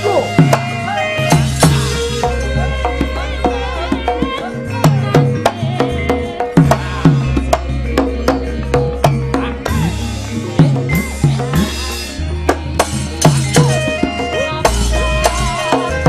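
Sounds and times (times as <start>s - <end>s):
woman singing through microphone: 0.2s - 11.6s, 13.6s - 16.0s.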